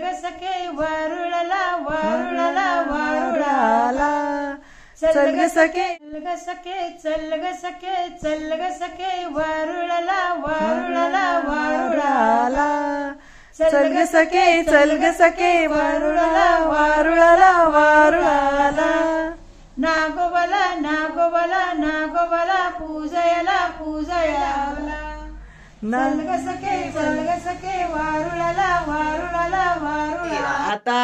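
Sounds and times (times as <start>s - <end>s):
woman singing: 0.0s - 31.0s.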